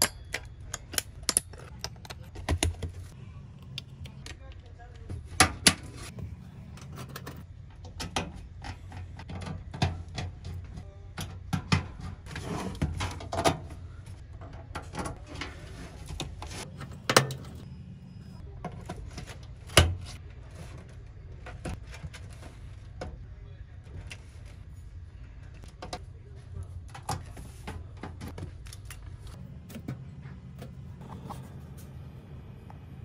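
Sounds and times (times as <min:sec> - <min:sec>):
steady low hum: 0:00.0 - 0:11.2, 0:15.4 - 0:33.0.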